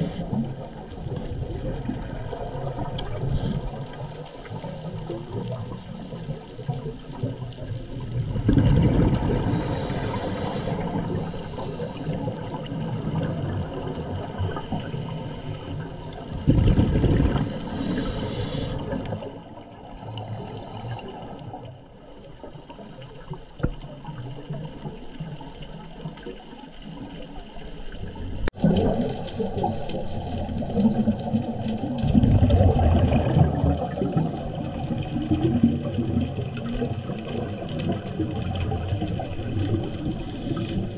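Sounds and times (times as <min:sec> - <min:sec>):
diver's bubbles gurgling underwater: 0:00.0 - 0:21.7, 0:27.9 - 0:40.9.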